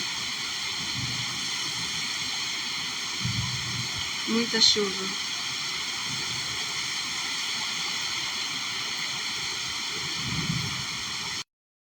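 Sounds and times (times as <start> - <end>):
heavy rain falling: 0.0 - 11.4.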